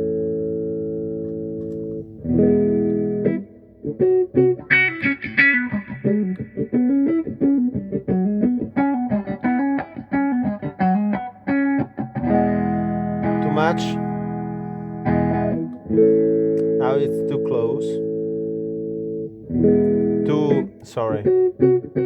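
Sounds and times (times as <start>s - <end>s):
electric guitar through wah pedal: 0.0s - 22.0s.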